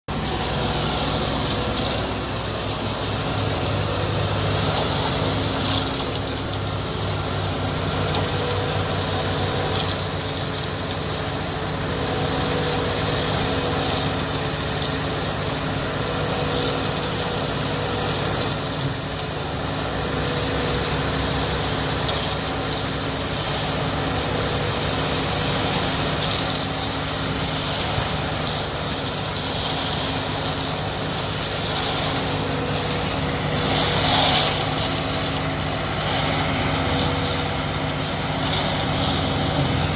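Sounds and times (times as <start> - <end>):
machinery humming: 0.1 - 39.9
rushing hiss: 0.1 - 39.9.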